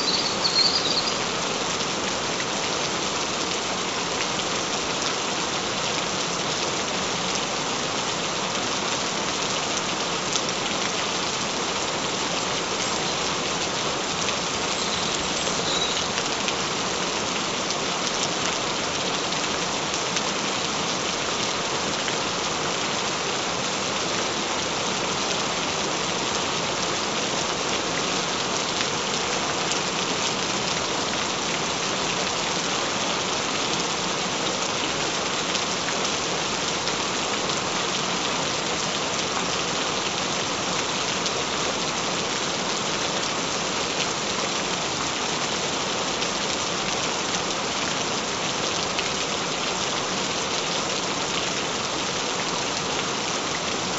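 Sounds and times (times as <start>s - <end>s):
gentle rain falling: 0.0s - 53.9s.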